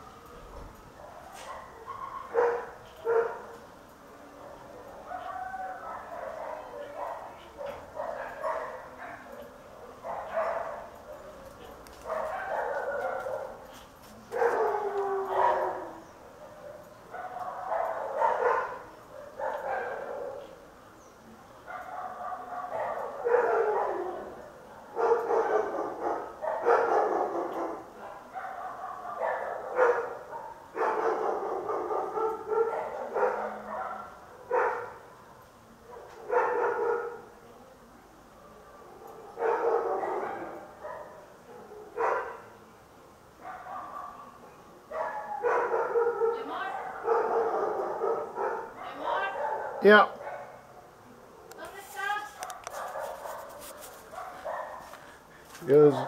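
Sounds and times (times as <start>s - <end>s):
dogs barking and yelping: 0.0s - 37.4s, 38.2s - 42.6s, 43.3s - 51.6s, 52.3s - 55.6s.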